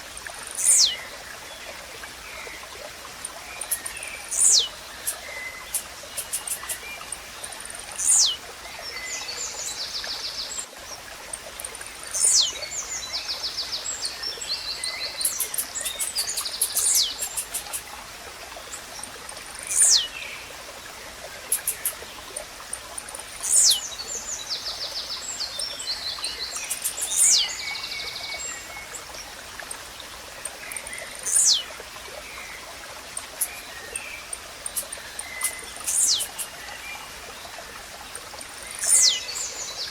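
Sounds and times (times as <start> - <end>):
birds trilling and ticking: 0.0 - 39.9
stream running: 0.0 - 39.9.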